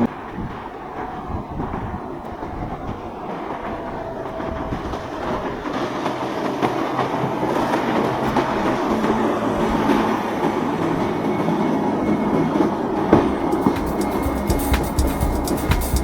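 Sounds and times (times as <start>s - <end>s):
water: 0.0s - 13.5s
wind rumble: 0.0s - 16.0s.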